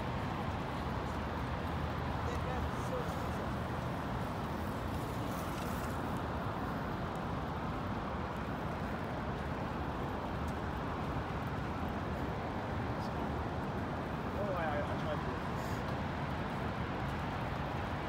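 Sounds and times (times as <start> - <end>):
rain: 0.0 - 18.0
traffic noise: 0.0 - 18.0.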